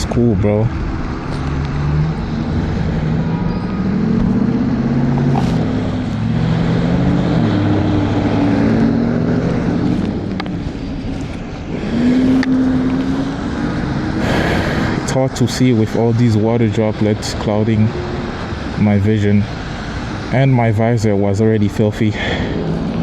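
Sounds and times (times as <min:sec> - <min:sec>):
vehicle engines passing: 0:00.0 - 0:23.0
wind and road noise: 0:00.0 - 0:23.0.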